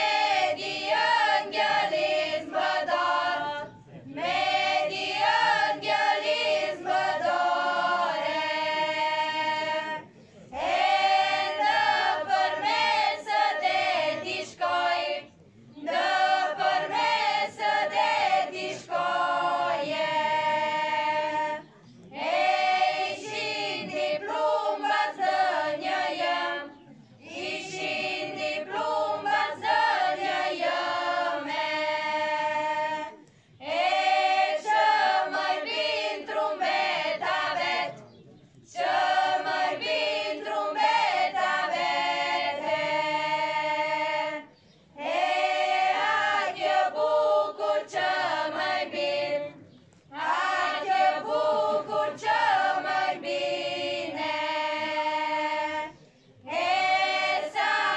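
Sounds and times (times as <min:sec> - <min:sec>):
women's choir singing folk song: 0:00.0 - 0:57.9.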